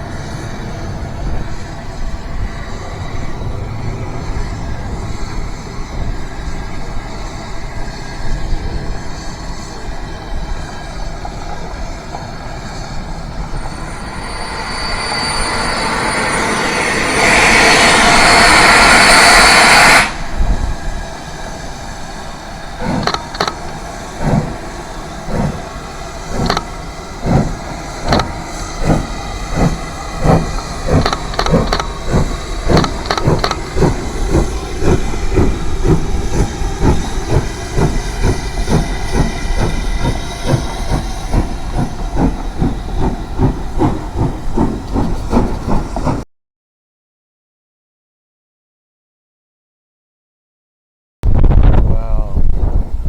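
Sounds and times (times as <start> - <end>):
train wheels clickety-clack: 0.0 - 20.7, 22.8 - 46.2
train rushing past: 0.0 - 46.2.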